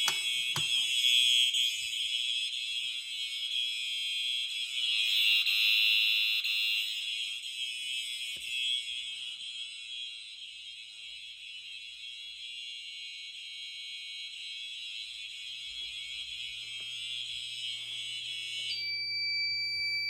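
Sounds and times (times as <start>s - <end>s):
fire alarm horns sounding: 0.0s - 20.0s.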